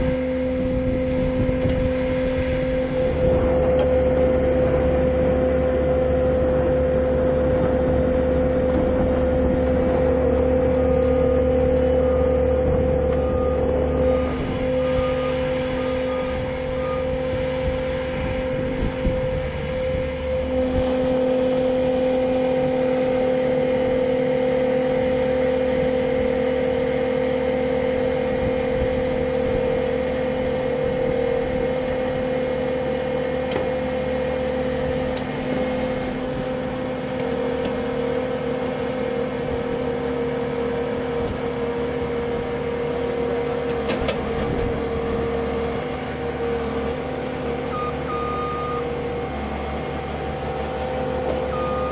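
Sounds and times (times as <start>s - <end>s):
heavy machine engine droning: 0.0s - 51.9s.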